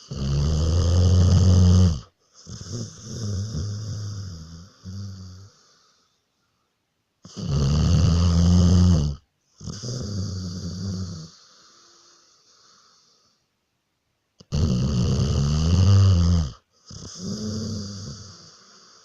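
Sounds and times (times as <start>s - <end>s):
dog snoring: 0.0s - 6.0s, 7.2s - 13.4s, 14.4s - 19.0s.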